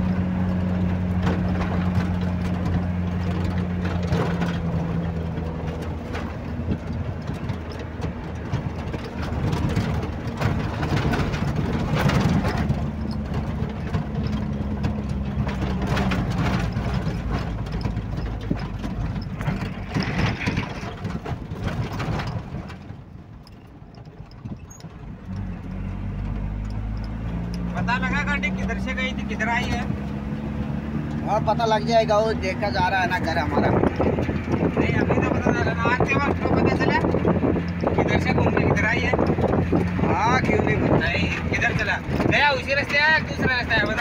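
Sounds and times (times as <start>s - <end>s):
truck engine running: 0.0s - 44.0s
vehicle knocks and jolts: 0.0s - 44.0s.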